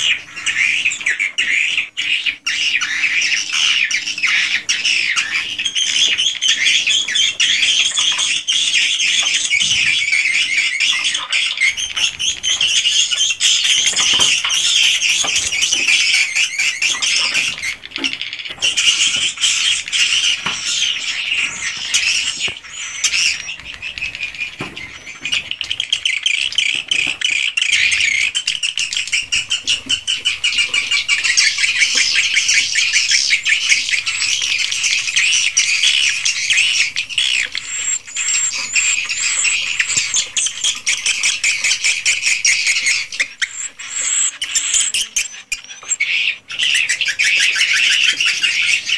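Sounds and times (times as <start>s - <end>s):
swiftlets chirping and twittering: 0.0s - 48.9s.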